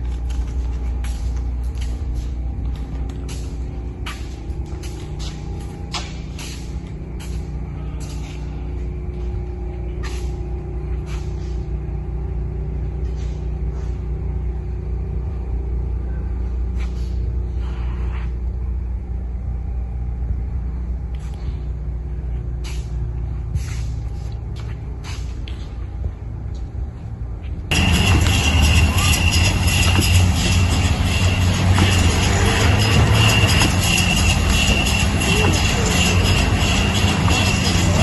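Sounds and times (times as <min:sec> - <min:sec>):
vehicle engine low rumble: 0:00.0 - 0:38.0.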